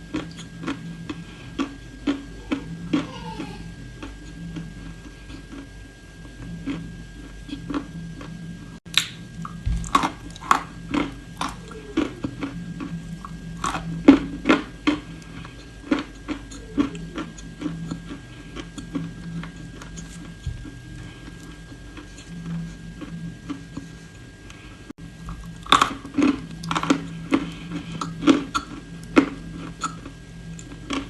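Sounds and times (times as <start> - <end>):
crunchy biting and chewing: 0.0 - 24.4, 25.2 - 31.0.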